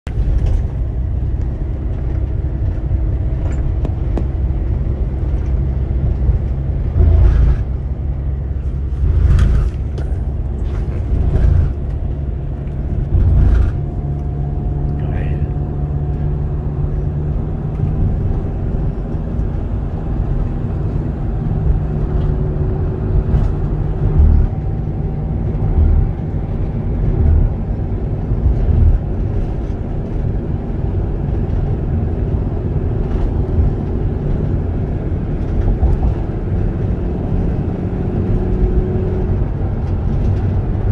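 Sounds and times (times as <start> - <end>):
engine and tyre rumble: 0.0 - 40.9
engine hum tones: 0.1 - 40.9.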